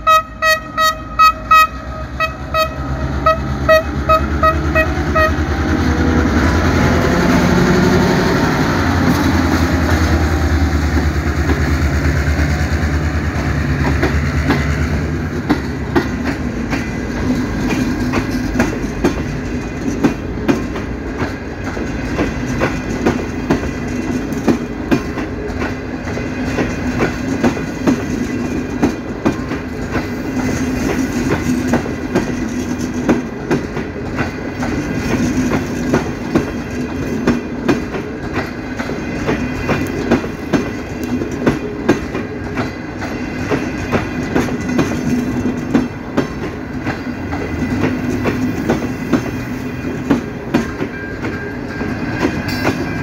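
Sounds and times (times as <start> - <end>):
wheels clicking over rail joints: 8.5 - 53.0.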